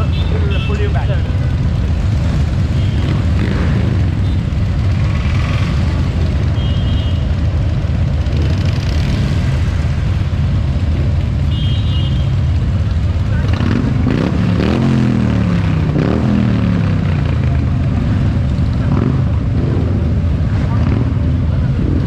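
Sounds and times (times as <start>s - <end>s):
motorcycle engine rumbling: 0.0s - 22.0s
road and wind noise: 0.0s - 22.0s.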